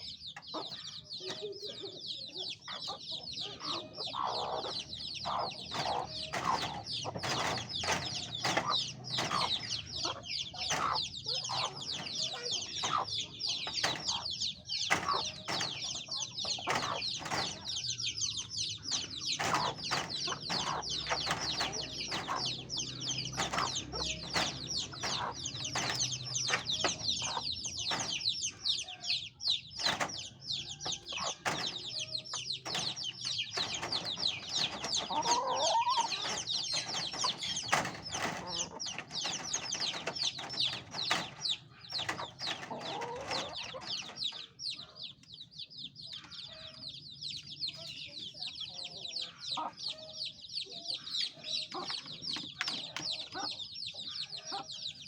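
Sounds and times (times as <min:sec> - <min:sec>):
chicks peeping: 0:00.0 - 0:55.0
hen clucking: 0:00.0 - 0:55.0.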